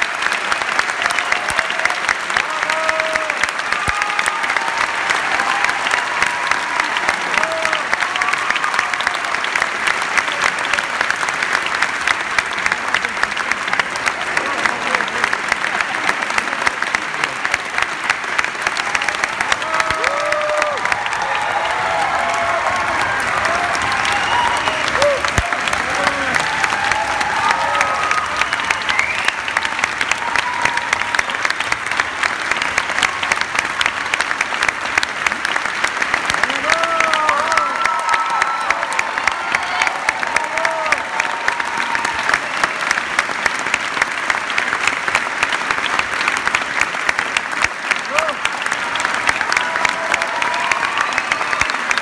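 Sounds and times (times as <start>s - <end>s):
audience applauding: 0.0s - 52.0s.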